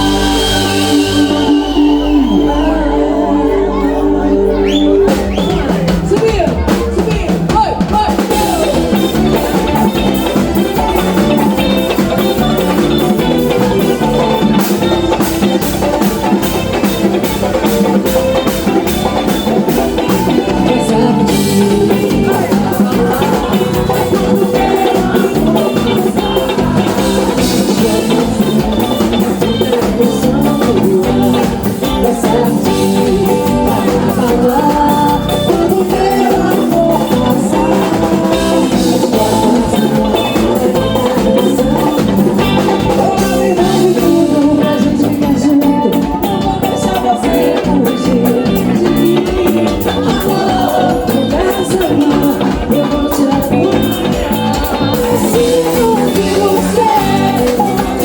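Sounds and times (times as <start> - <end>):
person singing lead vocal: 0.0 - 58.0
upbeat band playing: 0.0 - 58.0.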